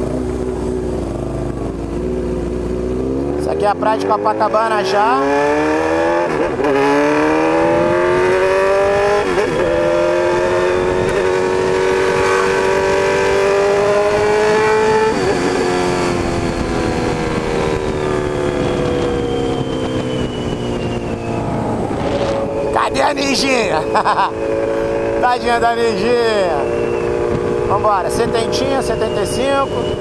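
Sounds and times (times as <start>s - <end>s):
motorcycle engine accelerating: 0.0s - 30.0s
wind and road noise: 0.0s - 30.0s.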